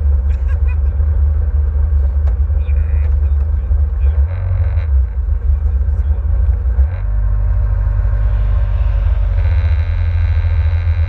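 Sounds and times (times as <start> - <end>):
jet ski engine rumbling: 0.0 - 11.0.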